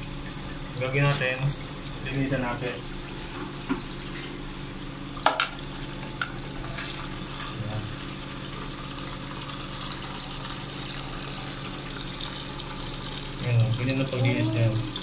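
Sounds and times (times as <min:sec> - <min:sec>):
tap water running into basin: 0:00.0 - 0:15.0.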